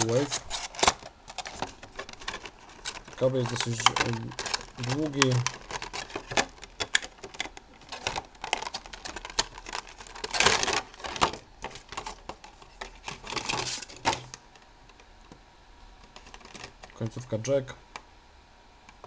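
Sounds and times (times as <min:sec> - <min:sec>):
plastic packaging crackling: 0:00.0 - 0:14.6, 0:16.0 - 0:17.0.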